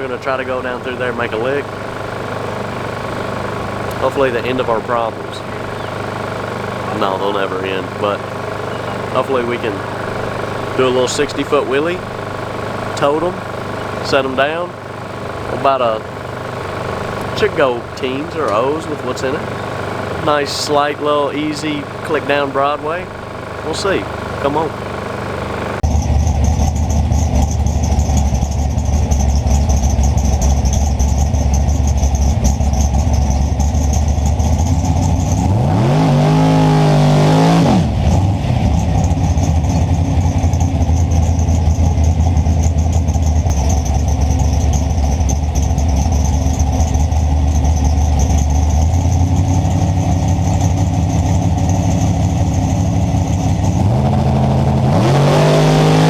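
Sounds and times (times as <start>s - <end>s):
drag car engine revving: 0.0s - 56.0s.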